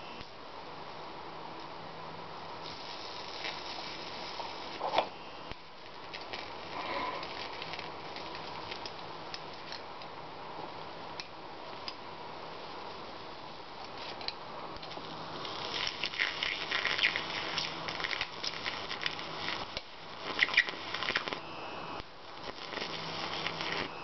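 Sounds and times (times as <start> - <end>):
electric arc crackling: 0.0 - 0.4, 2.4 - 10.0, 11.0 - 24.0
steady hum: 0.0 - 24.0.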